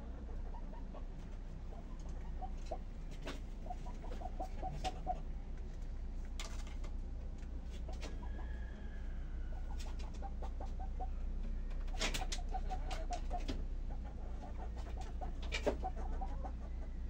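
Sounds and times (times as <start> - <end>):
hens clucking softly: 0.0 - 17.0.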